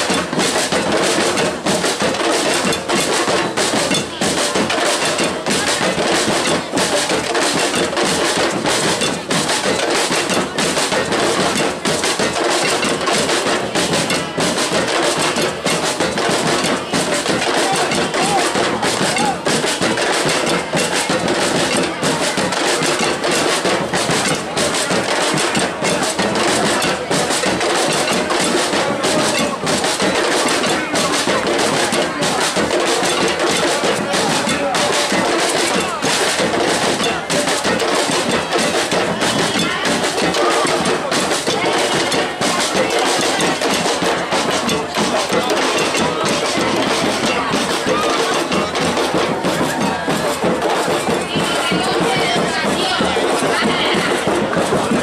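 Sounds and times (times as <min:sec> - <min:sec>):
drums playing driving beat: 0:00.0 - 0:55.0
voices: 0:00.0 - 0:55.0.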